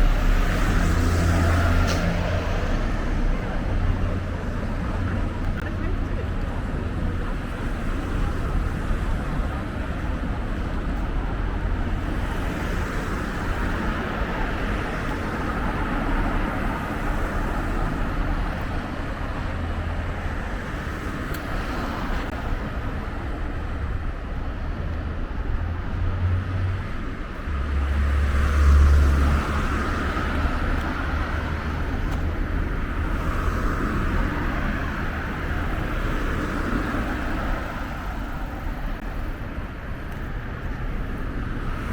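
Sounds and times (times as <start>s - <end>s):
cars passing: 0.0s - 41.9s.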